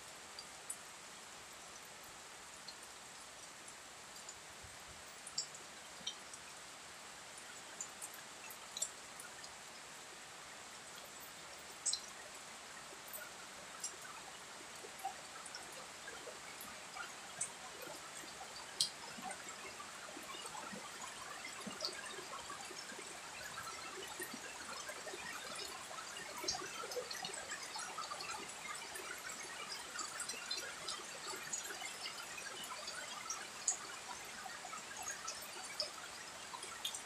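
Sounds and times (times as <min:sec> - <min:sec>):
rain falling on foliage: 0:00.0 - 0:37.0
sharp water drips: 0:00.1 - 0:37.0.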